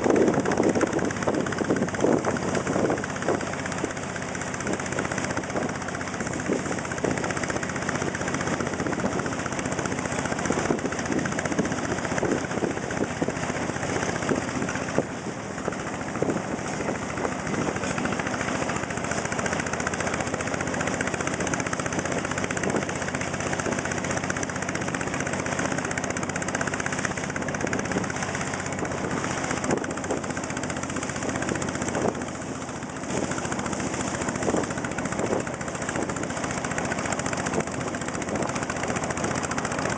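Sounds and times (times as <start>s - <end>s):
motor boat engine running: 0.0s - 39.9s
water noise: 0.0s - 39.9s
wind noise: 0.0s - 39.9s.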